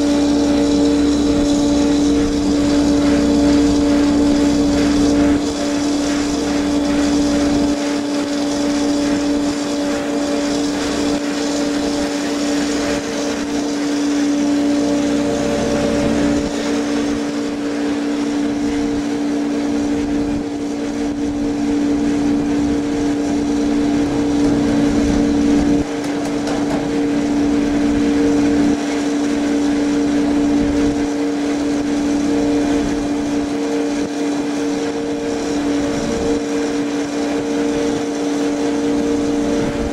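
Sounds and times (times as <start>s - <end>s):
auger unloading system drone: 0.0s - 39.9s.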